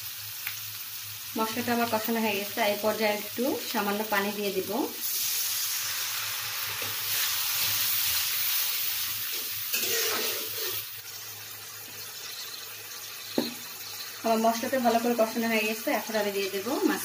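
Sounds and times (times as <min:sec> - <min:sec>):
paste sizzling in pan: 0:00.0 - 0:17.0.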